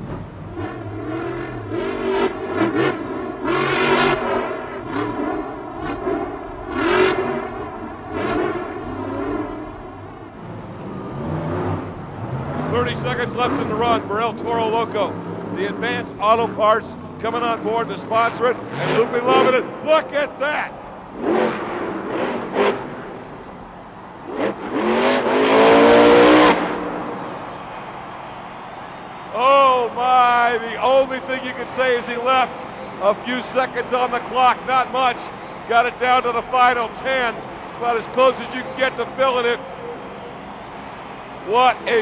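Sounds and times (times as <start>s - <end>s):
truck engine revving hard: 0.0s - 42.0s.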